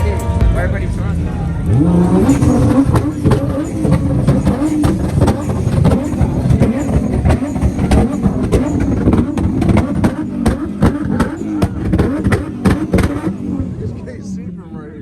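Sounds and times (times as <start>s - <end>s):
rough car engine: 0.0s - 15.0s
sharp engine cracks: 0.9s - 13.4s.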